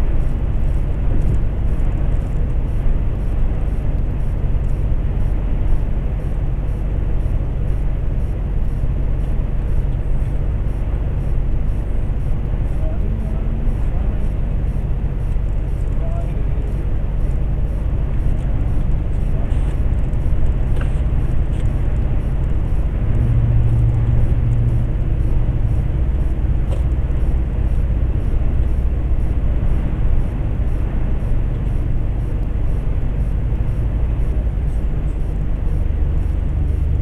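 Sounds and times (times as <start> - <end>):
truck diesel engine drone: 0.0 - 37.0.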